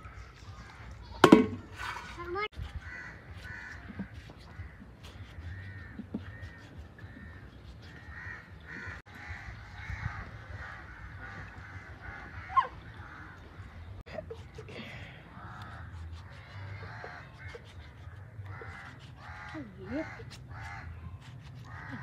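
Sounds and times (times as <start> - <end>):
harsh caw-like bird calls: 2.7 - 13.9, 15.3 - 22.0.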